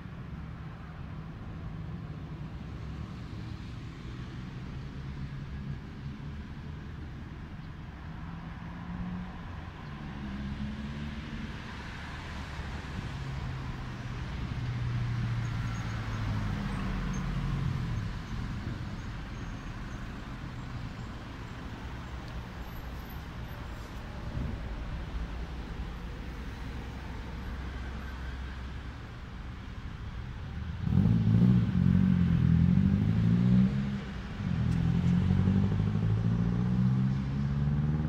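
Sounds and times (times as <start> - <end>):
cars driving past: 2.8 - 38.0.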